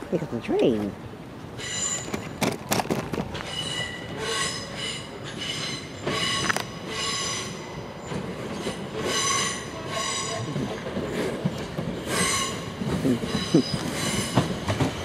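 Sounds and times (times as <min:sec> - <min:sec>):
train wheels squealing on rails: 0:01.6 - 0:02.5, 0:03.3 - 0:15.0.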